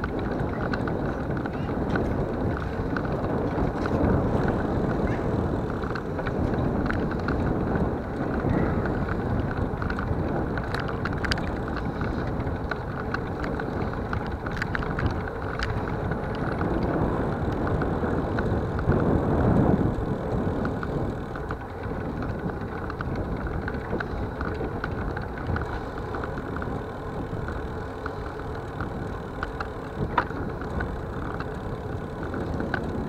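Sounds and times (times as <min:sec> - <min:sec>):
small rattles and clicks: 0:00.0 - 0:33.0
steady road rumble: 0:00.0 - 0:33.0
wind buffeting microphone: 0:00.0 - 0:33.0.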